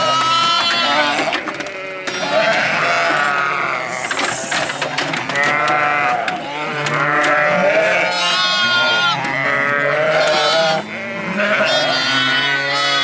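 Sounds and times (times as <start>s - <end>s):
sheep and lambs bleating: 0.0s - 13.0s.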